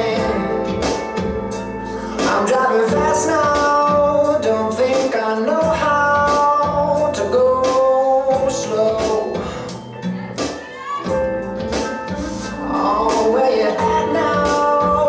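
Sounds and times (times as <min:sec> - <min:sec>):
pop song with singing: 0:00.0 - 0:15.0.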